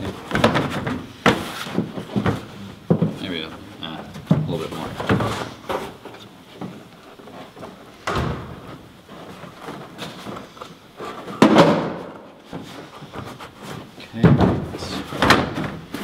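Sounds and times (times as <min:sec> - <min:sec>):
paperboard rustling: 0:00.0 - 0:16.0.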